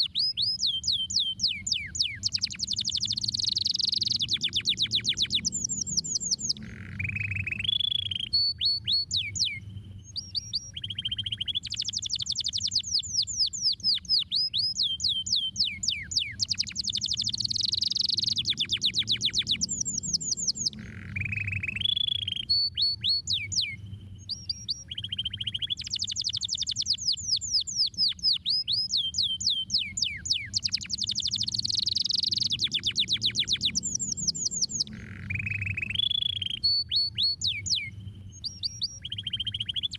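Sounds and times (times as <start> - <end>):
canary singing trills: 0.0 - 39.9
faint low hum: 0.0 - 39.9.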